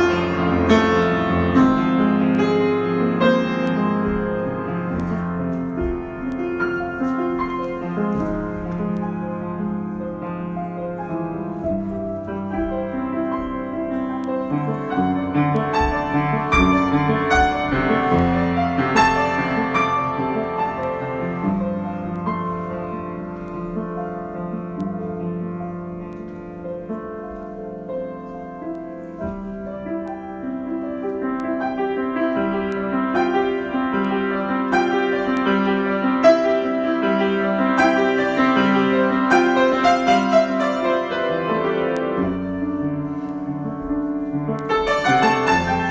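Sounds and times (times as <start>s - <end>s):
solo piano improvisation: 0.0s - 45.9s.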